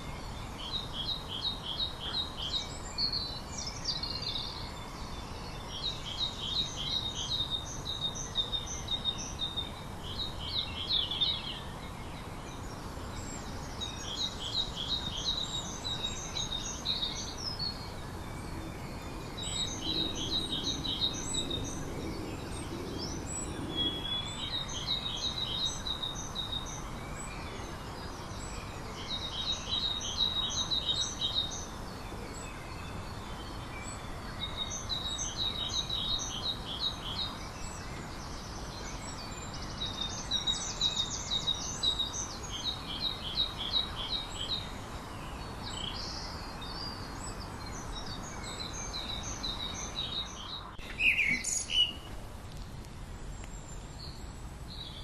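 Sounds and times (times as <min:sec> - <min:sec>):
steady background hiss: 0:00.1 - 0:55.0.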